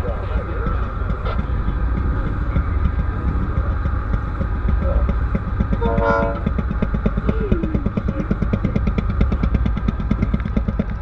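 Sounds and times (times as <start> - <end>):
small engines idling: 0.0 - 11.0.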